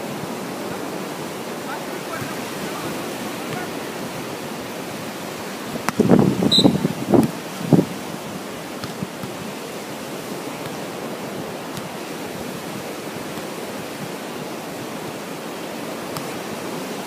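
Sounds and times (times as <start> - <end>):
surf on beach: 0.0 - 17.0
wind: 0.0 - 17.0.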